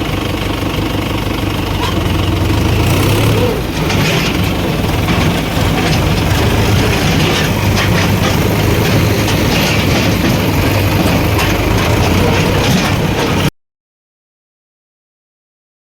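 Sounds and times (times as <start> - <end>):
heavy diesel engine running: 0.0 - 13.5.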